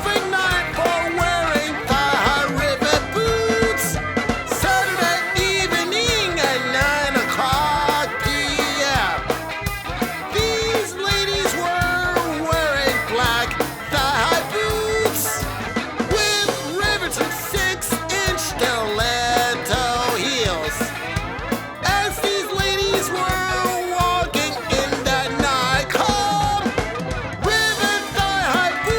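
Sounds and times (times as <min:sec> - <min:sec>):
person singing rock song: 0:00.0 - 0:28.9
steady drum beat: 0:00.0 - 0:28.9.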